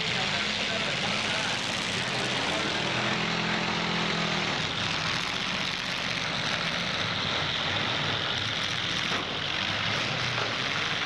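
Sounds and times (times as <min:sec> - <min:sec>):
car engines running together: 0:00.0 - 0:11.0.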